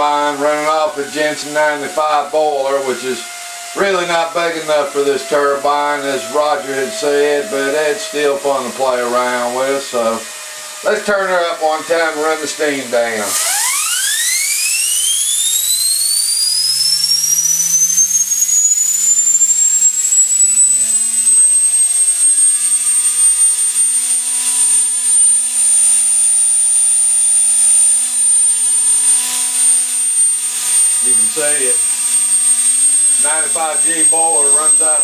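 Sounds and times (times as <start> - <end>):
steam hissing: 0.0 - 35.0
steam turbine whine: 0.0 - 35.0.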